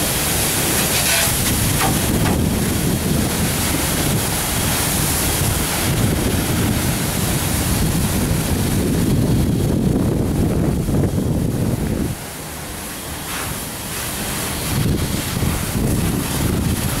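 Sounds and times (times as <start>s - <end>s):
fire roaring: 0.0s - 17.0s
hose stream spraying: 0.0s - 17.0s
wind buffeting microphone: 0.0s - 17.0s.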